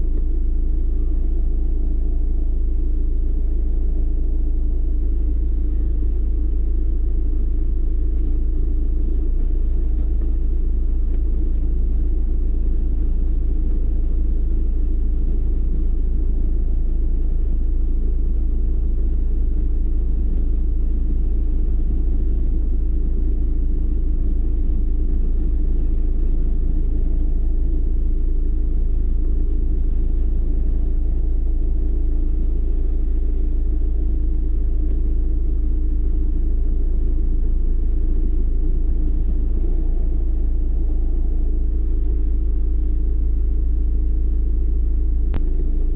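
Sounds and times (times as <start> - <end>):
car driving rumble: 0.0 - 45.9
faint steady hum: 0.0 - 45.9.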